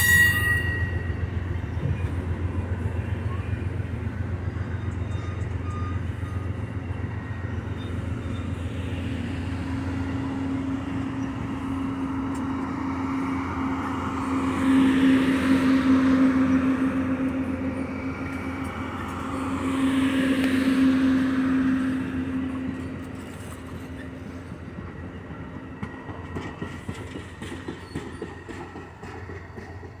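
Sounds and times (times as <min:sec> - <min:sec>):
train wheels rolling on rails: 0:00.0 - 0:30.0.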